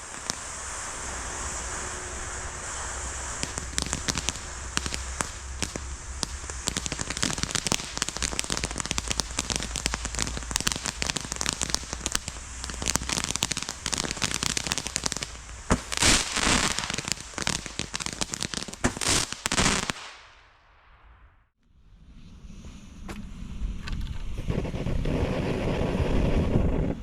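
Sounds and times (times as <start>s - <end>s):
firework crackling: 0.0s - 21.1s, 24.4s - 27.0s.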